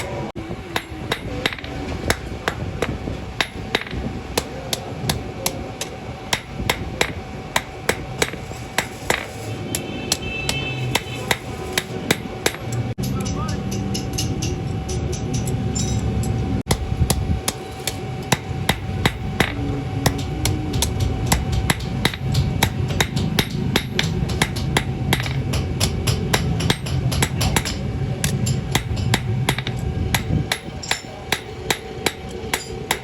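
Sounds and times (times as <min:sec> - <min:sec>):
steady low rumble: 0:00.0 - 0:10.3, 0:10.9 - 0:33.0
hammer striking steel on anvil: 0:00.0 - 0:33.0.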